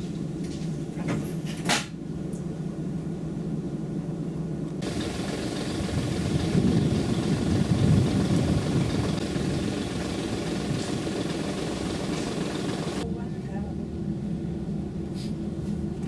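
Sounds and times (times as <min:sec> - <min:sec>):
steam train rumble and clatter: 0:00.0 - 0:16.0.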